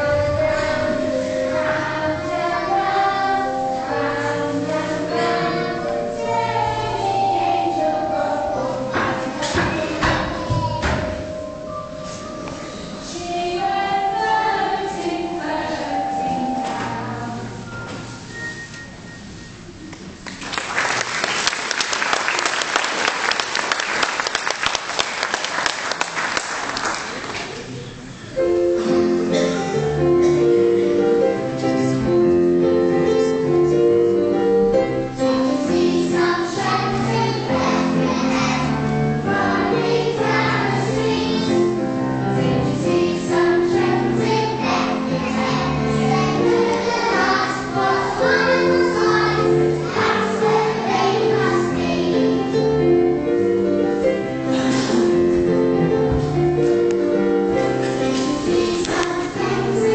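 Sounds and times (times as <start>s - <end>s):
children's choir singing: 0.0s - 18.7s, 28.4s - 59.9s
instrumental accompaniment of held notes: 0.0s - 20.2s, 28.0s - 59.9s.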